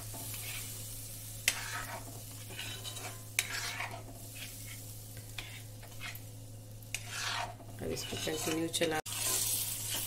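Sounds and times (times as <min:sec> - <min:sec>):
spatula scraping against pan: 0:00.0 - 0:00.8, 0:01.4 - 0:10.0
faint sizzle: 0:00.0 - 0:10.0.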